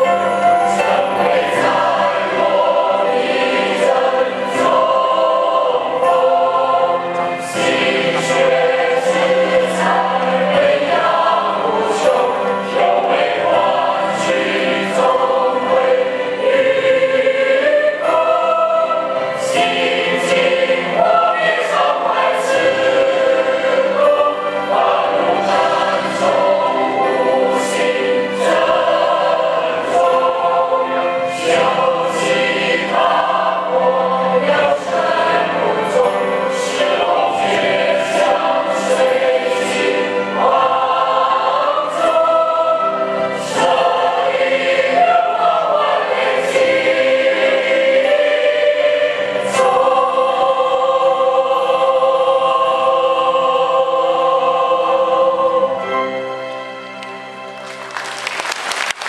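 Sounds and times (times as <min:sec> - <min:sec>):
mixed choir singing a hymn: 0:00.0 - 0:57.4.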